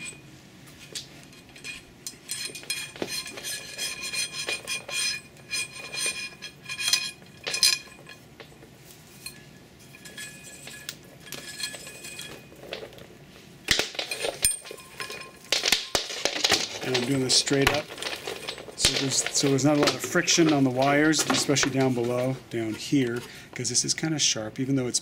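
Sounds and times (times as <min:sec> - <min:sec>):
metal pipe clinking: 0:00.0 - 0:13.1, 0:13.7 - 0:23.4.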